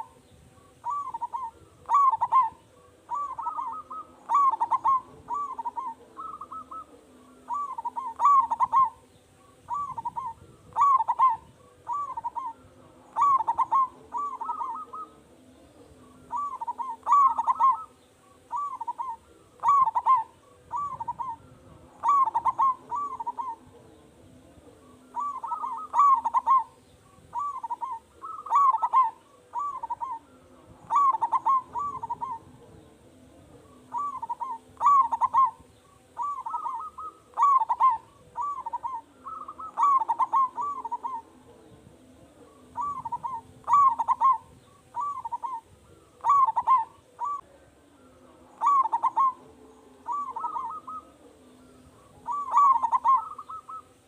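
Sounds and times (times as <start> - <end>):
dove cooing: 0.0 - 54.0
faint low hum: 0.0 - 54.0.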